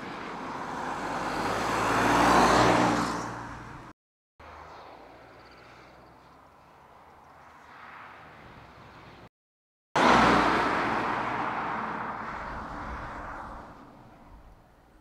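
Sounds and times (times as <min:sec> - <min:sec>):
distant cars driving by: 0:00.0 - 0:09.3, 0:10.0 - 0:15.0.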